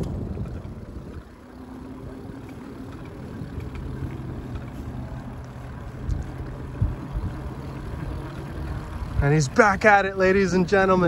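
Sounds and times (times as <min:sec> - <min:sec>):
electric bike motor hum: 0:00.0 - 0:11.0
tyre noise on pavement: 0:00.0 - 0:11.0.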